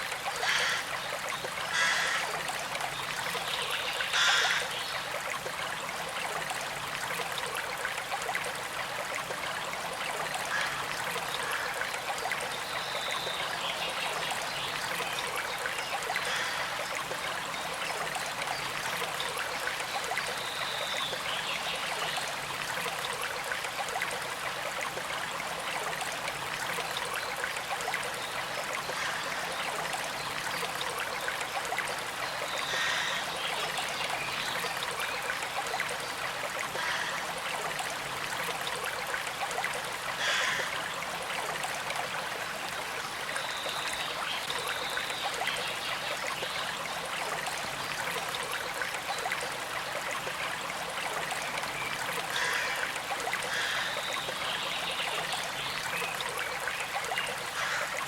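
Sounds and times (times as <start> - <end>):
shallow stream flowing: 0.0 - 58.0.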